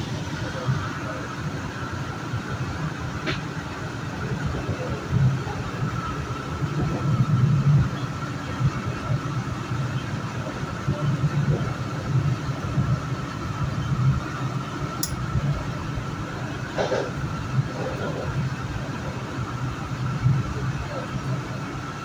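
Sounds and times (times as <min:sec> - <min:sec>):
steady train whine: 0:00.0 - 0:22.0
train wheels rumbling on rails: 0:00.0 - 0:22.0.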